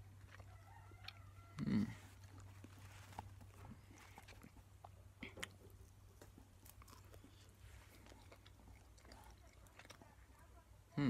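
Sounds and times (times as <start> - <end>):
crunch: 0.0 - 10.3
close-up chewing: 0.0 - 11.0
low steady hum: 0.0 - 11.0.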